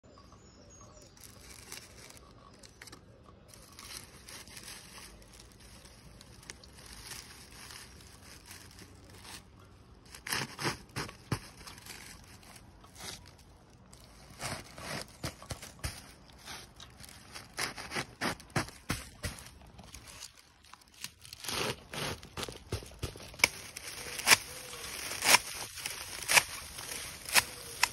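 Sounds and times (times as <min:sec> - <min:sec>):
dry straw rustling and crackling: 0:00.8 - 0:27.9.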